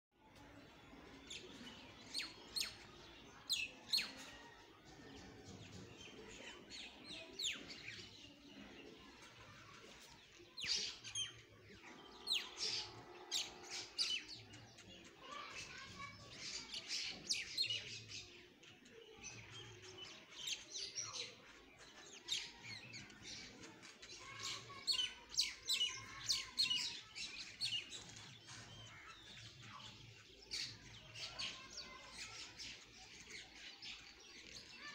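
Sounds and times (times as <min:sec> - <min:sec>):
low outdoor background: 0:00.1 - 0:34.9
small birds chirping: 0:00.2 - 0:34.9.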